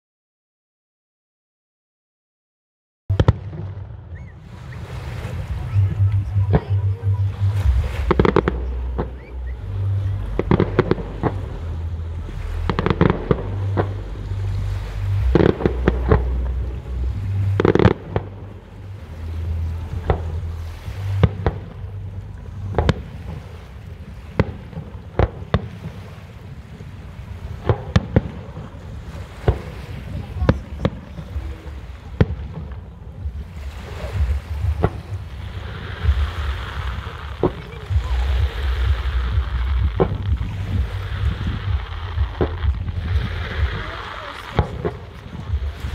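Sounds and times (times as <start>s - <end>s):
fireworks bangs and crackles: 3.1s - 9.3s, 10.2s - 14.2s, 15.3s - 18.5s, 19.8s - 20.5s, 21.1s - 21.8s, 22.7s - 45.9s.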